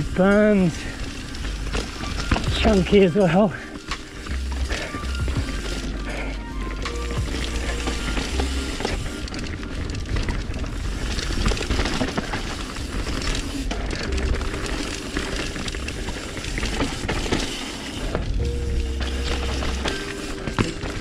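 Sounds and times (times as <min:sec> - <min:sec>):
mountain bike rattling over rocks: 0:00.0 - 0:21.0.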